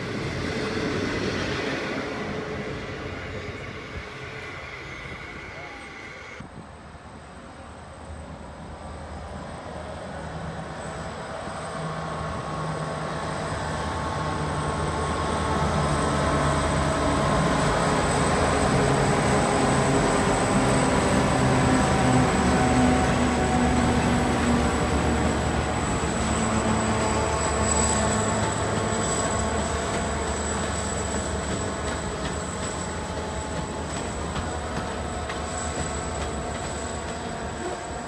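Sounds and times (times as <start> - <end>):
diesel locomotives passing: 0.0 - 38.0.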